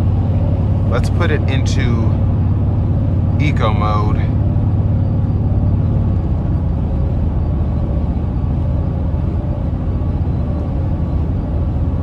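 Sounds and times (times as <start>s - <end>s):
truck cabin rumble: 0.0s - 12.0s.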